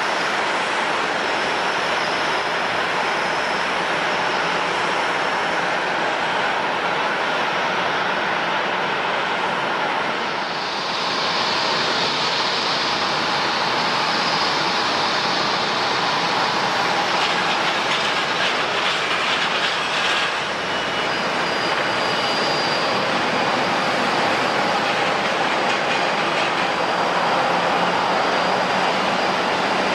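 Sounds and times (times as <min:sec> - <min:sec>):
jet engines rushing: 0:00.0 - 0:29.9.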